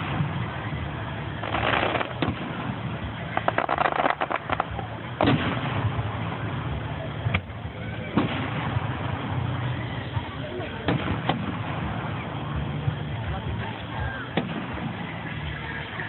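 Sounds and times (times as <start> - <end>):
firework bangs: 0.0 - 16.0
firework crackling: 0.0 - 16.0.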